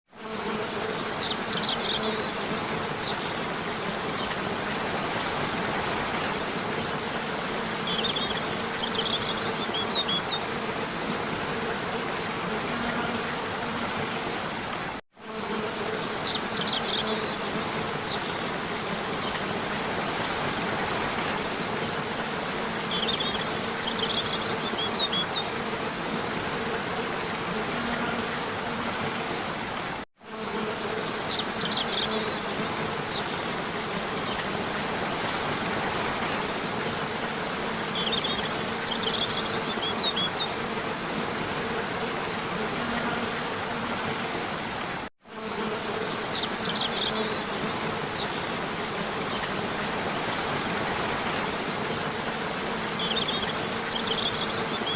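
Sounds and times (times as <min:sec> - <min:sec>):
insects buzzing: 0:00.1 - 0:54.9.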